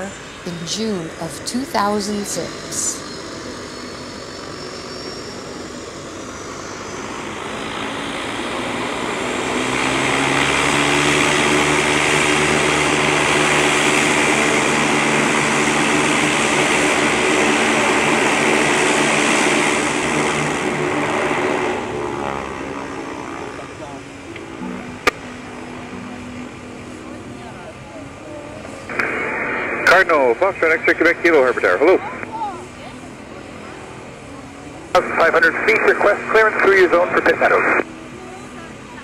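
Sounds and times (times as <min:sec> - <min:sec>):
propeller drone: 0:00.0 - 0:39.0
turbine engine whine: 0:00.0 - 0:39.0.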